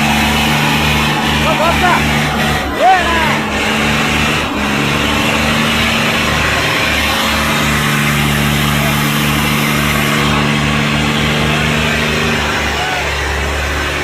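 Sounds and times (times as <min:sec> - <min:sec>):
tractor engines running: 0:00.0 - 0:14.0.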